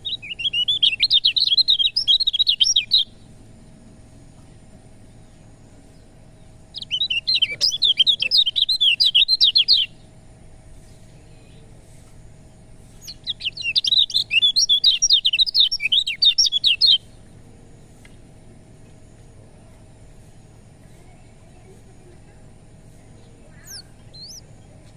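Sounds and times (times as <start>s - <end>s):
bird singing chattering notes: 0.0s - 3.9s, 5.0s - 24.9s.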